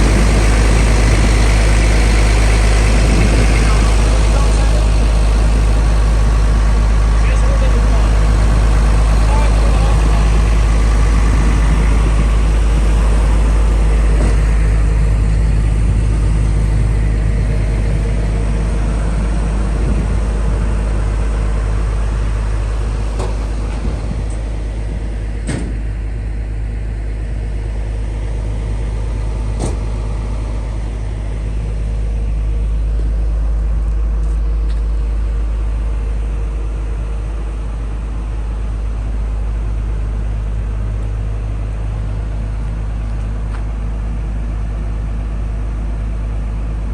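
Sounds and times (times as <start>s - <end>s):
excavator diesel engine idling: 0.0s - 46.9s.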